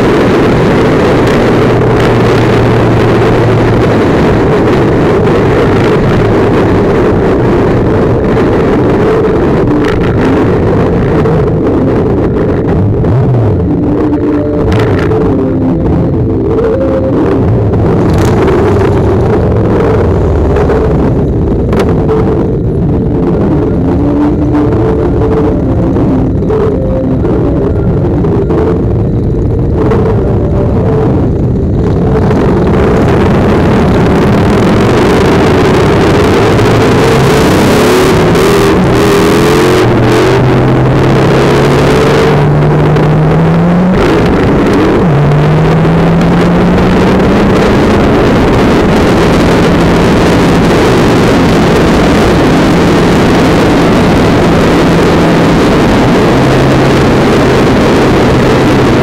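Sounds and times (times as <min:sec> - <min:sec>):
motorcycle accelerating hard: 0:00.0 - 0:59.0
wind rush on microphone: 0:00.0 - 0:59.0.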